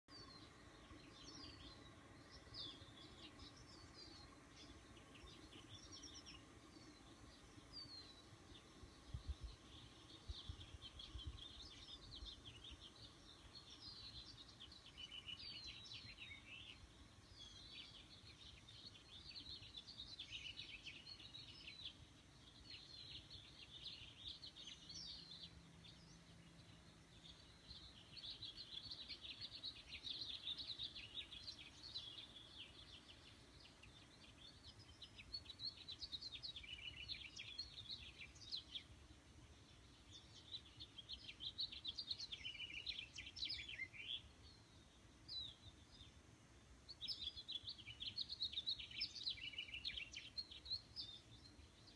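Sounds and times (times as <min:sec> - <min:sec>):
songbirds chirping and twittering: 0:00.0 - 0:51.9
low steady background: 0:00.1 - 0:51.9.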